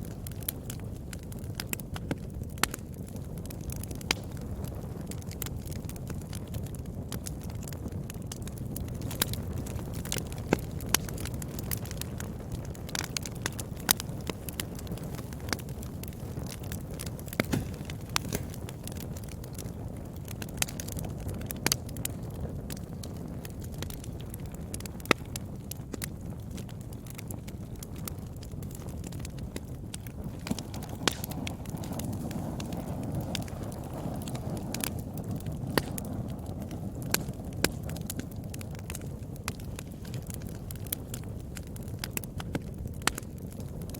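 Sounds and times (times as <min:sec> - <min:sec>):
fire crackles and pops: 0:00.0 - 0:43.9
low rumble of flames: 0:00.0 - 0:43.9.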